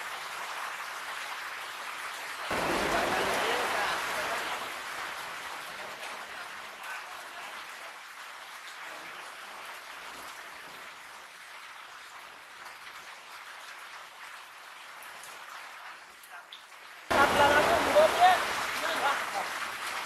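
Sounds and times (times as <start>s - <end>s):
rain falling on wet ground: 0.0s - 20.0s.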